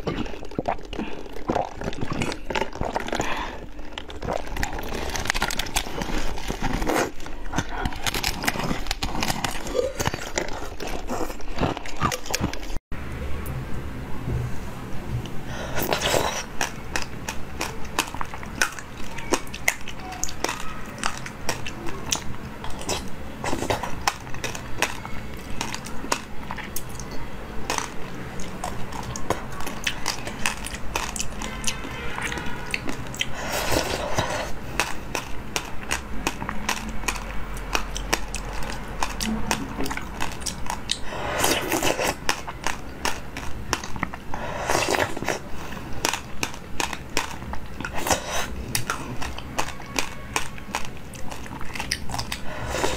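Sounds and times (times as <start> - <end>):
seeds crackling while chewed: 0.0 - 12.8, 15.6 - 52.9
wet slurps: 0.0 - 12.8, 15.5 - 24.6, 28.4 - 52.9.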